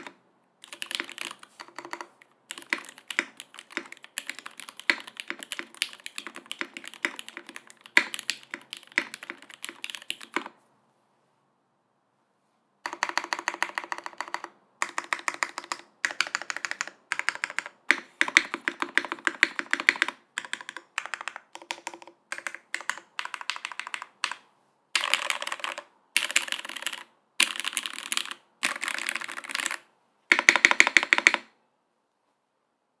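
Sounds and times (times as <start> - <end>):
fast typing on mechanical keyboard: 0.0 - 10.5, 12.9 - 24.4, 25.0 - 31.5.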